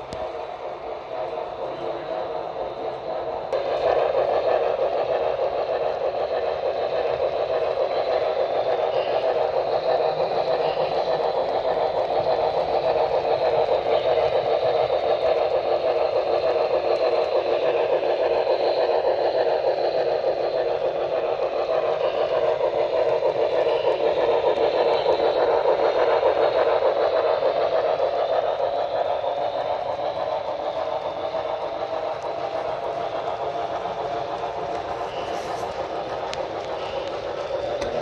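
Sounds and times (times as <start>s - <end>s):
model train rolling on track: 0.0s - 38.0s.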